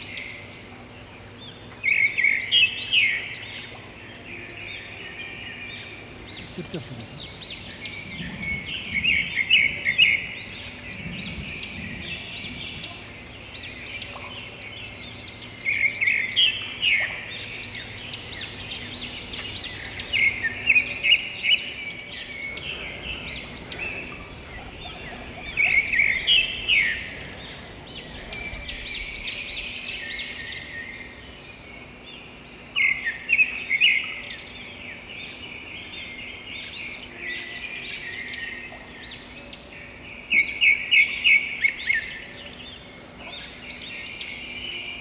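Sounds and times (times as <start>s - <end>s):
songbirds chirping: 0.0s - 45.0s
steady outdoor hiss: 0.0s - 45.0s.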